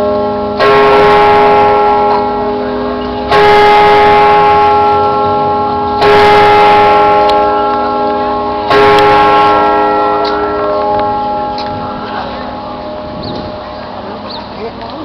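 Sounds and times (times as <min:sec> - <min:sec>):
church bell tolling: 0:00.0 - 0:14.9.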